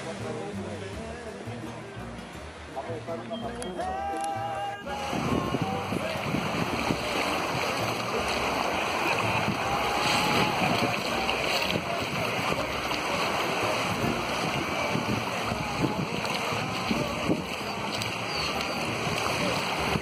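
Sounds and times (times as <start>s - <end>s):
waves washing onto beach: 3.8s - 20.0s
wind noise on microphone: 3.9s - 20.0s.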